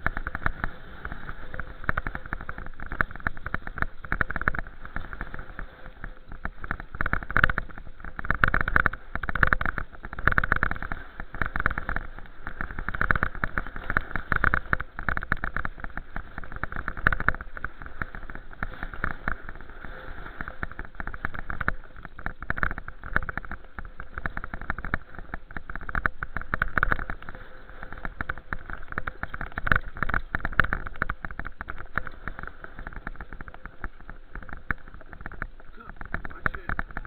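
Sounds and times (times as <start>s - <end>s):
bicycle knocks and rattles: 0.0s - 0.7s, 1.5s - 5.3s, 6.3s - 19.6s, 20.4s - 37.0s.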